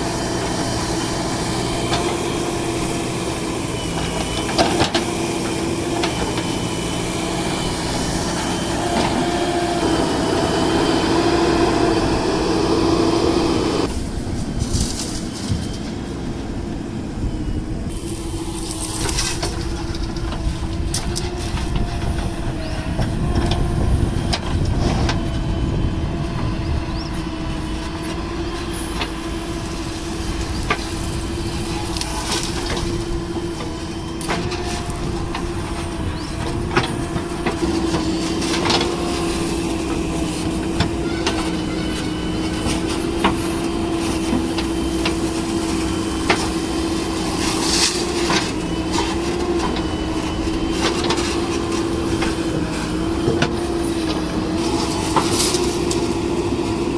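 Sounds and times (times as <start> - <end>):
diesel machinery droning: 0.0 - 56.9.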